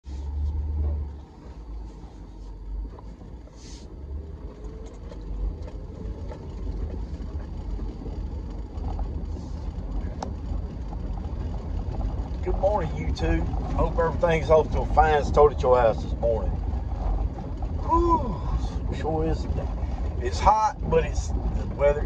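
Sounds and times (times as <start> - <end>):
engine and road noise rumble: 0.0 - 22.0
light clicks and rattles: 0.3 - 22.0.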